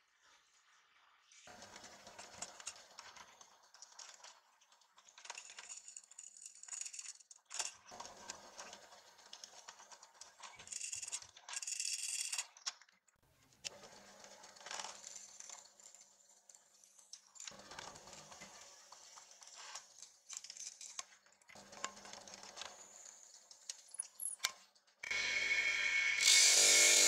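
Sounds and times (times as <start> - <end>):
small metal clicks and rattles: 2.1 - 25.1.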